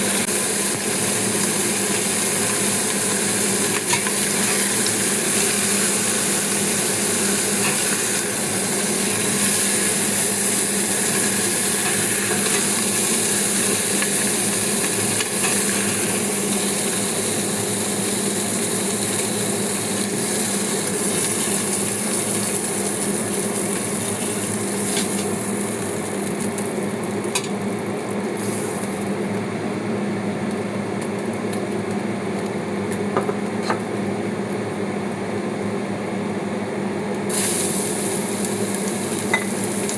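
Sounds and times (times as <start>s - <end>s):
food sizzling in a frying pan: 0.0s - 29.4s, 37.2s - 39.9s.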